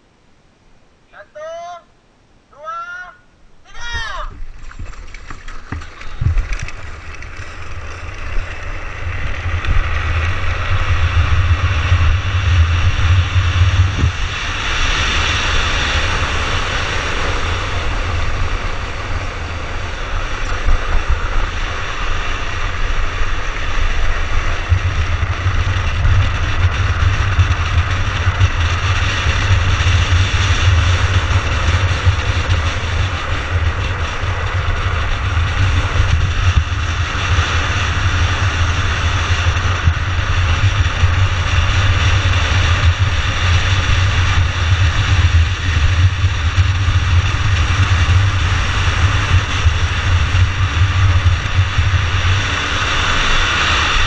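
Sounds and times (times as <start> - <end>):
wind buffeting camera: 3.7 - 54.0
wheels hissing on asphalt: 4.5 - 54.0.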